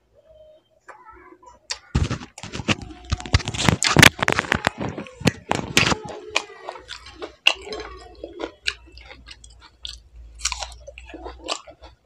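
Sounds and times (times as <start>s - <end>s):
man chewing fruit: 1.7s - 12.0s.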